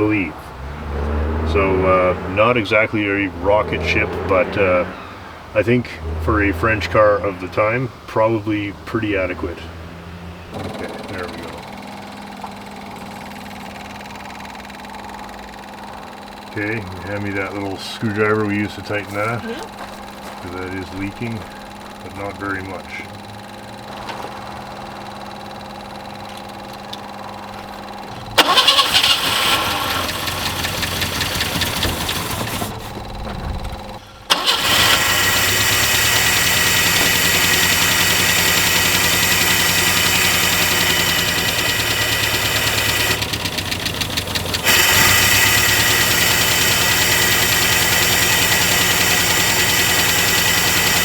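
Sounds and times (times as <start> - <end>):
four-cylinder car engine running: 0.0 - 51.0.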